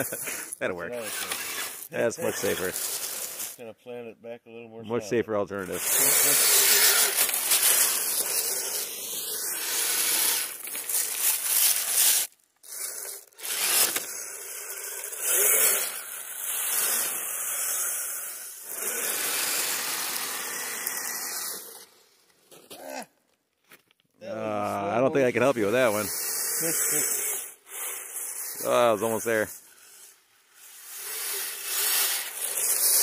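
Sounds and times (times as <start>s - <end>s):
rc vehicle churning through snow: 0.0s - 3.6s, 5.6s - 22.0s, 25.4s - 33.0s.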